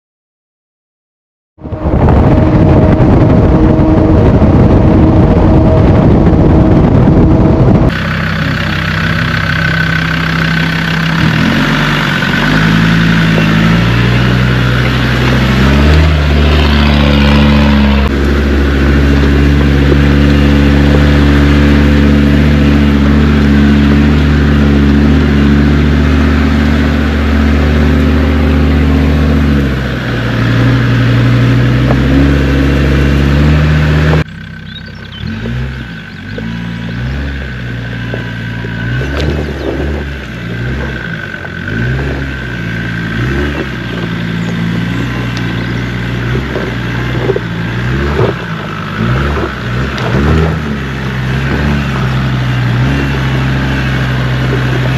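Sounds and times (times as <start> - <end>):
diesel engine running: 1.6 - 54.9
road and wind noise: 1.6 - 54.9.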